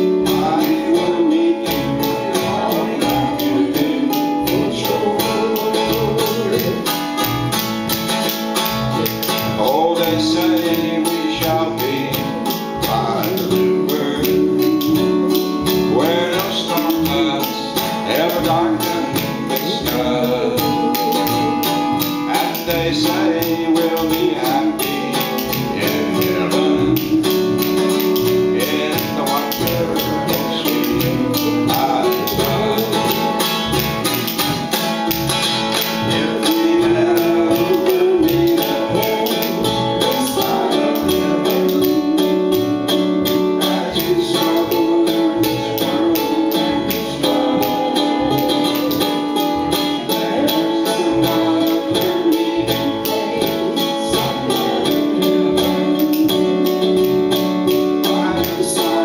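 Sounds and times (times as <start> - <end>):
man singing: 0.0 - 7.6, 8.2 - 59.0
strummed guitar: 0.0 - 59.0.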